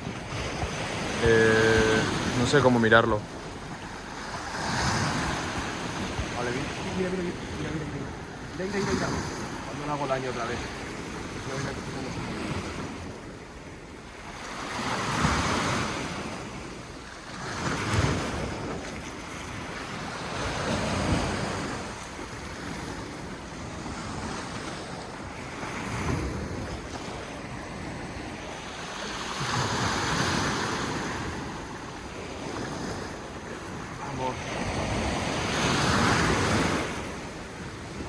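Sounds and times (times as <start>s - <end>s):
sea waves on rocky shore: 0.0s - 38.0s.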